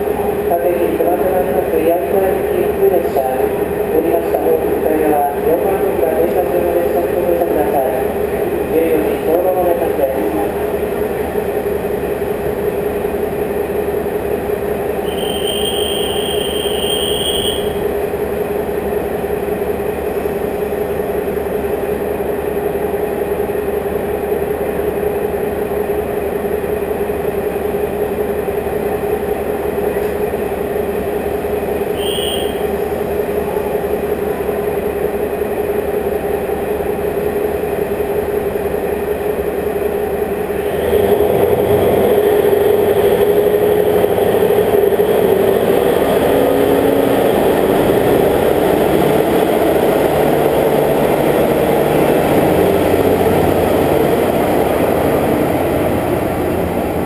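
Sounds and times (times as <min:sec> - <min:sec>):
train idling hum: 0:00.0 - 0:57.0
train pulling out rumble: 0:00.0 - 0:57.0.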